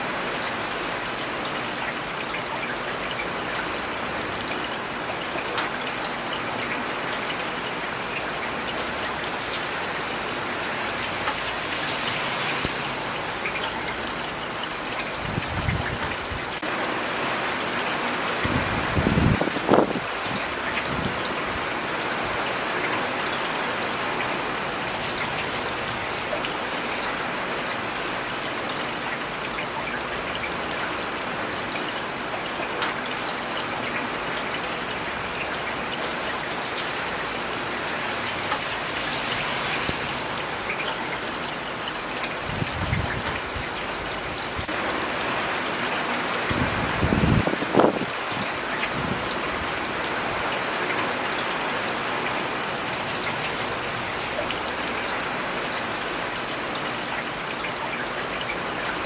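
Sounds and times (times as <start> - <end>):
rain falling on city surfaces: 0.0 - 59.0.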